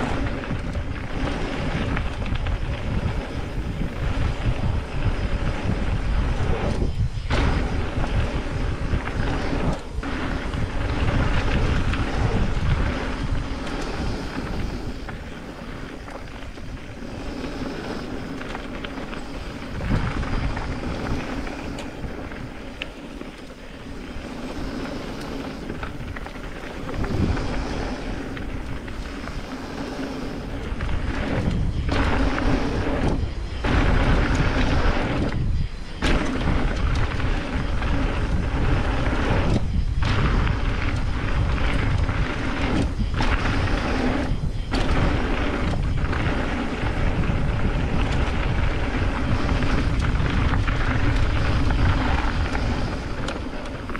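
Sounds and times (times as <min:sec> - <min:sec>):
bike tyres and frame rattling: 0:00.0 - 0:53.9
wind buffeting microphone: 0:00.0 - 0:53.9.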